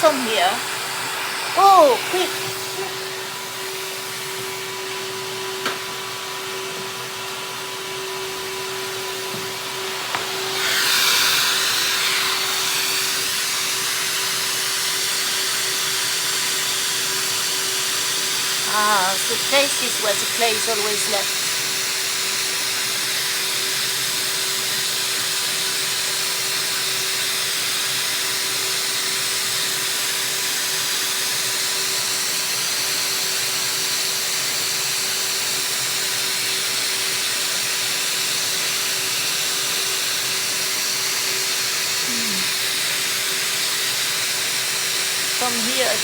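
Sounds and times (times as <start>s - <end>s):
vacuum cleaner running: 0.0s - 46.0s.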